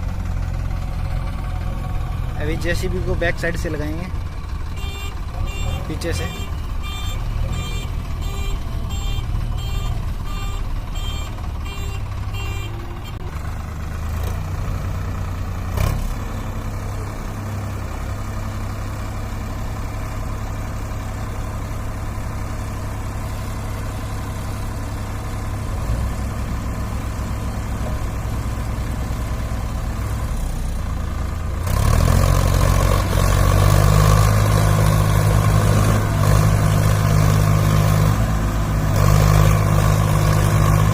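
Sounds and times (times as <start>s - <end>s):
engines revving under load: 0.0s - 31.0s, 31.6s - 40.9s
diesel engines running: 0.0s - 40.9s.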